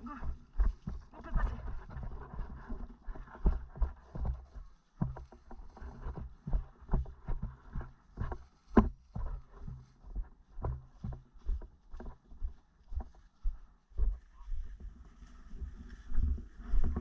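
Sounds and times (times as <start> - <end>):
footsteps on ground: 0.0 - 17.0.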